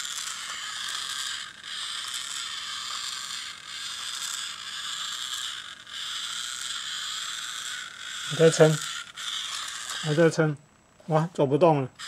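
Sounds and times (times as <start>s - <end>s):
toy robot motor whirring: 0.0s - 10.5s.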